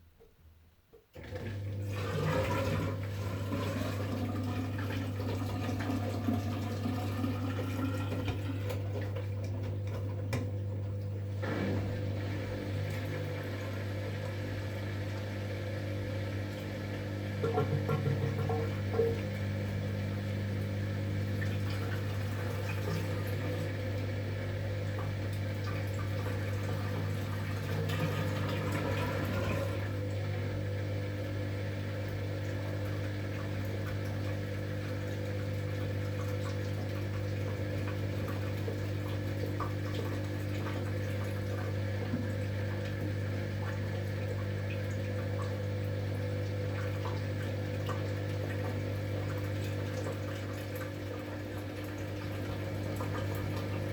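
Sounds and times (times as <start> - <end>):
water running through washing machine: 1.1 - 53.9
low machine hum: 1.3 - 53.9.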